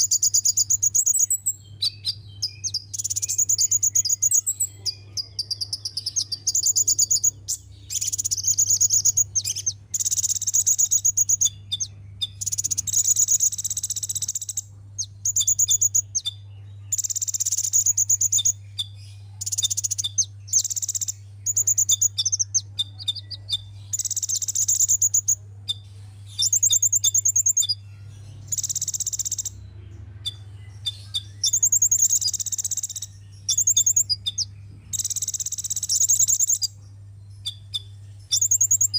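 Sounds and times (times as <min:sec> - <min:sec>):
bird trills and chirps: 0:00.0 - 0:38.9
steady low hum: 0:00.0 - 0:38.9.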